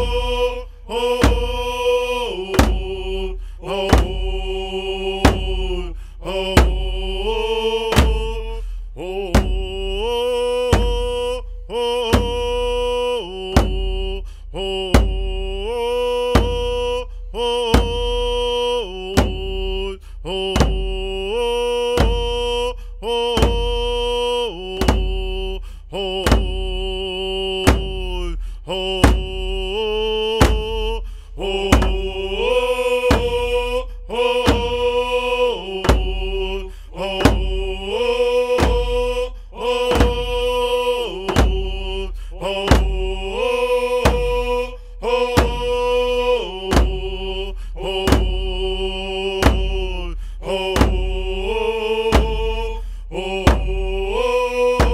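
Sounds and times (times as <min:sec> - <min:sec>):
chanted singing: 0:00.0 - 0:54.9
slow drum beat: 0:00.0 - 0:54.9.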